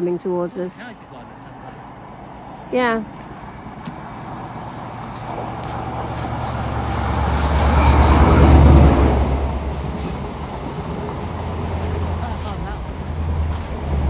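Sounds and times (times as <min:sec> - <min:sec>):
diesel train passing: 0:00.0 - 0:14.0.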